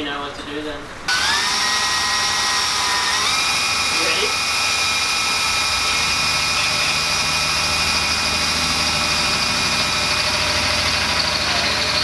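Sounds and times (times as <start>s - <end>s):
power drill boring into metal: 1.1s - 12.0s.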